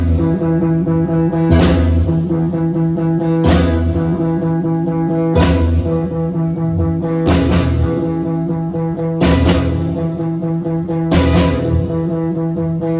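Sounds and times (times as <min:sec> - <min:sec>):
held chords: 0:00.0 - 0:12.9.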